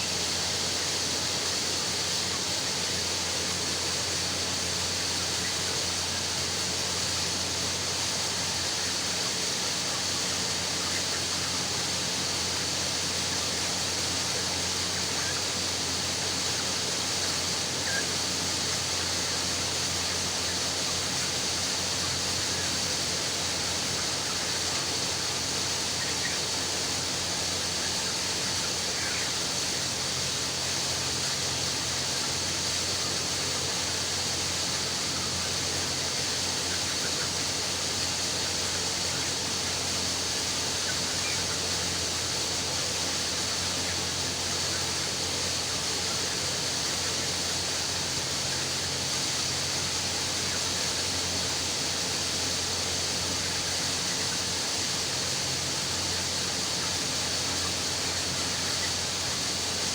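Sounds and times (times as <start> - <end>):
faint chick chirps: 0.0 - 59.9
steady hiss with low hum: 0.0 - 59.9.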